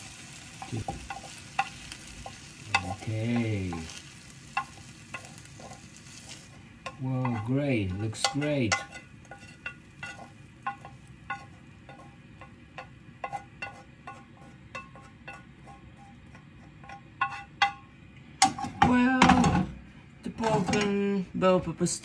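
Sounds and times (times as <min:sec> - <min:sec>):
faint sizzle: 0:00.0 - 0:22.0
spatula knocking on frying pan: 0:00.1 - 0:05.8, 0:06.8 - 0:19.6.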